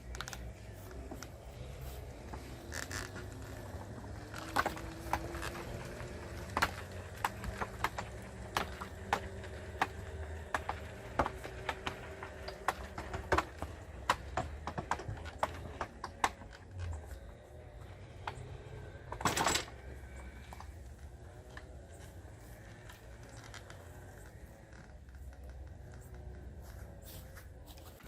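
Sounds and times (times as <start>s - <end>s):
faint whine: 0.0s - 28.0s
lawnmower low hum: 0.0s - 28.0s
sharp clicks and ticks: 2.2s - 27.0s.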